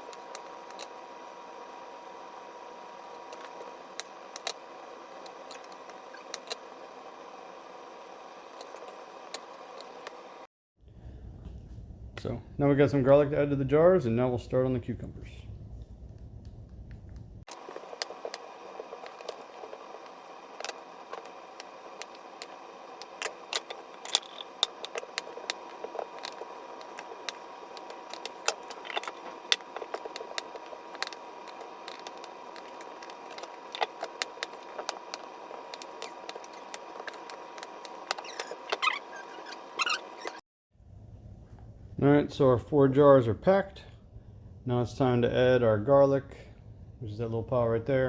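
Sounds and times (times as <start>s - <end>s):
steady hum: 0.0s - 42.5s.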